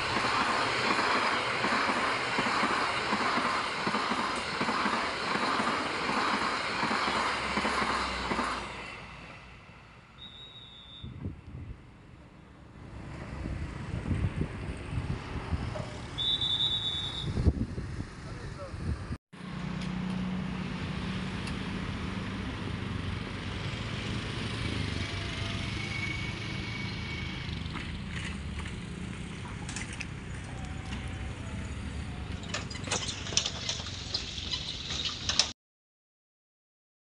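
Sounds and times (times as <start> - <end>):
engine hum: 0.0 - 35.5
road traffic rumbling: 0.0 - 35.5.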